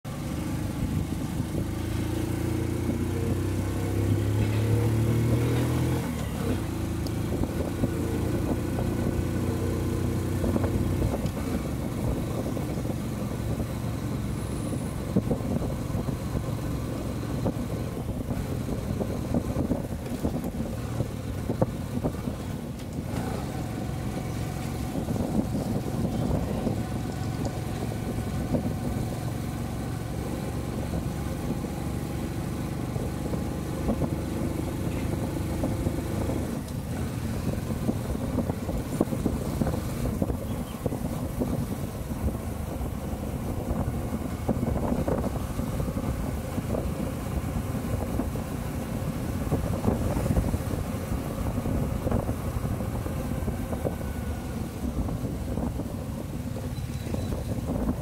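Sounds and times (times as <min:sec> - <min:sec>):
motorcycle engine: 0:00.0 - 0:58.0
wind and road noise: 0:00.0 - 0:58.0.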